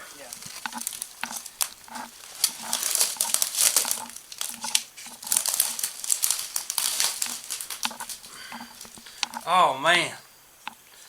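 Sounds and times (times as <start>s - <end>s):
leaves and brush rustling: 0.0s - 11.0s.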